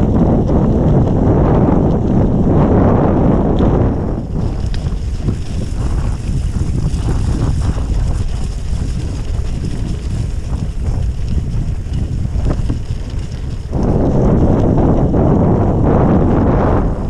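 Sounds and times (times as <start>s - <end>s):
bike tyres rolling on wet gravel: 0.0s - 17.0s
wind buffeting microphone: 0.0s - 17.0s.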